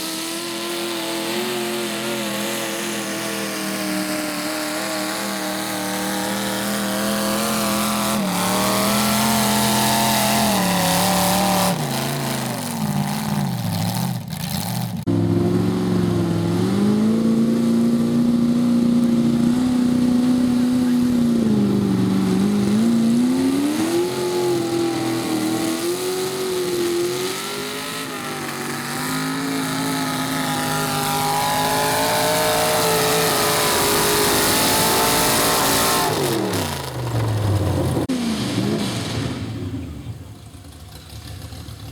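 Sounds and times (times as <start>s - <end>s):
tractor engine running hard: 0.0s - 41.9s.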